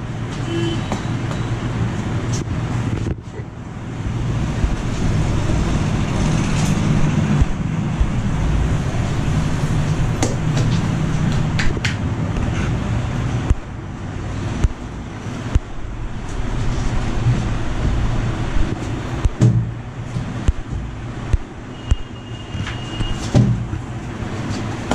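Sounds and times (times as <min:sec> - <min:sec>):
roadside traffic rumble: 0:00.0 - 0:24.9.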